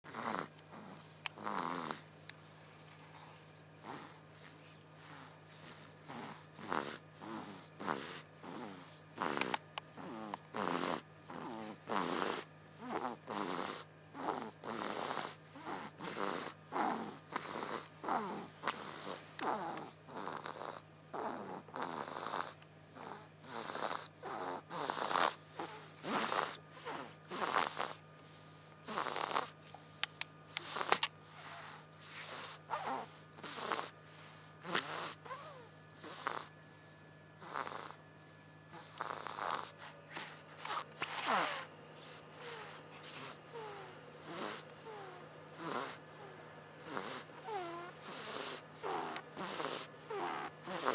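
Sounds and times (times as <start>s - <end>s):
baby snoring: 0.0s - 50.9s.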